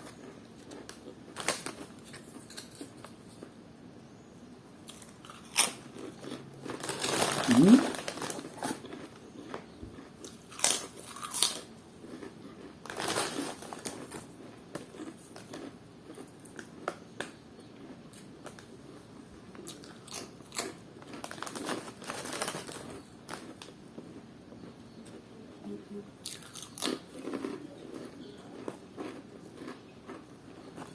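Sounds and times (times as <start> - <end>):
person chewing crunchy snack: 4.9 - 25.2, 26.2 - 30.9.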